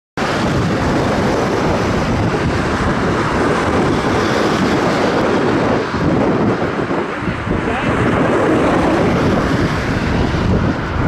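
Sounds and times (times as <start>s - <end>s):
jet airliner rushing noise: 0.2s - 11.0s
wind buffeting microphone: 0.2s - 11.0s.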